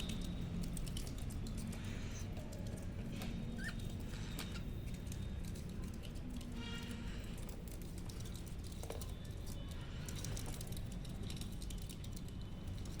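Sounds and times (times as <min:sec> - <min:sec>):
birds pecking and scratching: 0:00.0 - 0:13.0.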